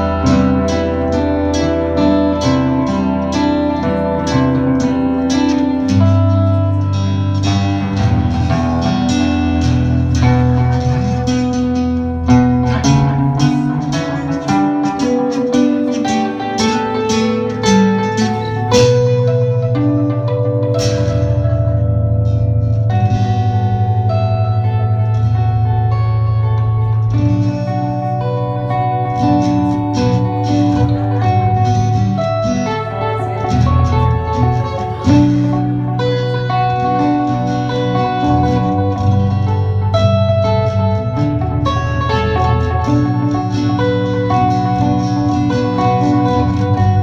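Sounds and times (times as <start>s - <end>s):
acoustic guitar picking: 0.0s - 47.0s.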